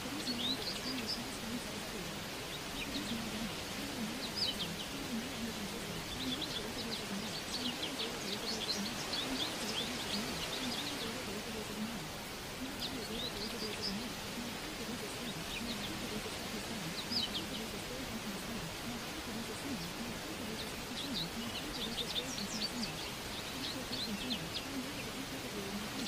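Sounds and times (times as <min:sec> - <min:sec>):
low voice murmuring: 0:00.0 - 0:26.0
small birds chirping: 0:00.0 - 0:26.0
steady hiss: 0:00.0 - 0:26.0.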